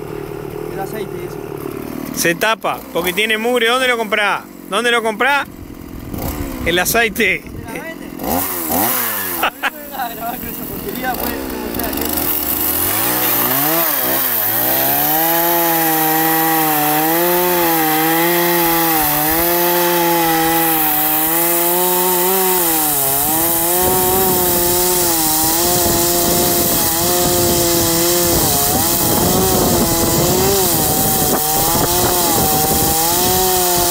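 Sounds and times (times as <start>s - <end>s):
chainsaw cutting through log: 0.0s - 33.9s.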